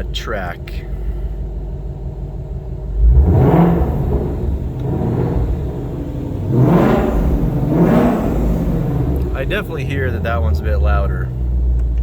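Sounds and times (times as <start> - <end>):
car engine revving: 1.7 - 12.0.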